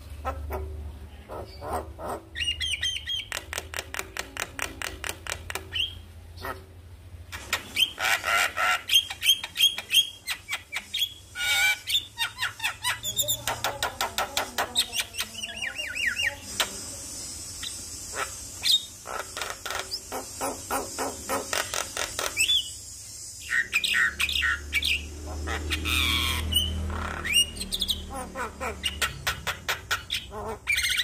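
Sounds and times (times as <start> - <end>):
myna bird singing: 0.2 - 31.0.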